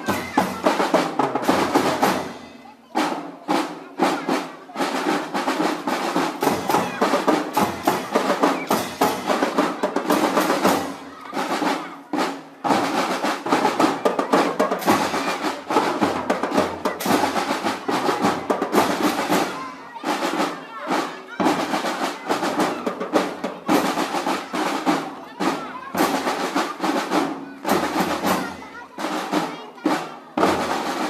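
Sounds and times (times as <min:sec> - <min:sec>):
snare drums beating with rolls: 0:00.0 - 0:31.0.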